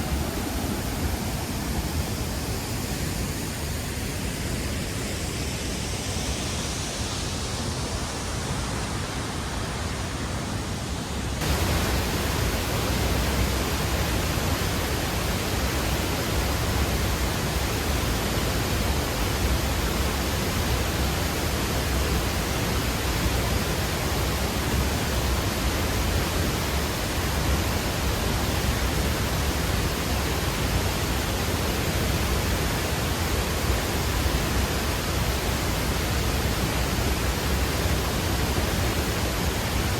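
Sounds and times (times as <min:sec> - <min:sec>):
waterfall rushing: 0:00.0 - 0:10.7, 0:11.3 - 0:39.9.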